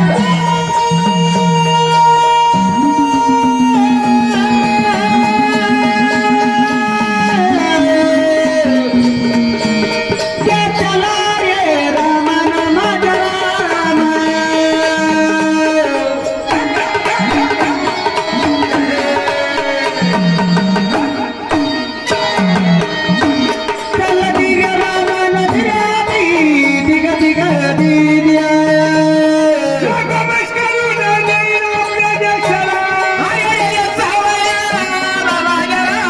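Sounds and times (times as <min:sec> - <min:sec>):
hand drum rhythm: 0:00.0 - 0:36.0.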